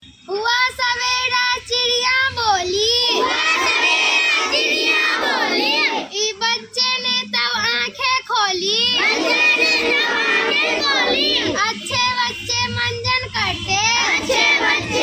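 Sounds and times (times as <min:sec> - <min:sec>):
children chanting a rhyme: 0:00.3 - 0:15.0.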